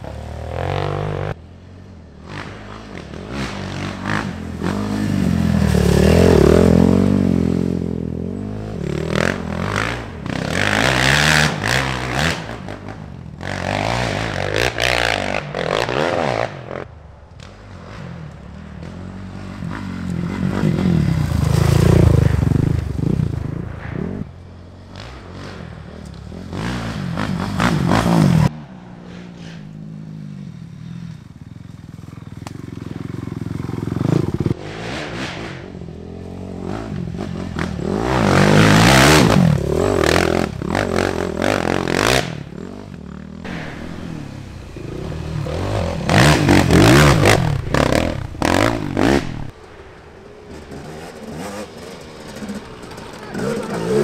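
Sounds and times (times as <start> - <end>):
quad bikes revving past: 0.0 - 54.0.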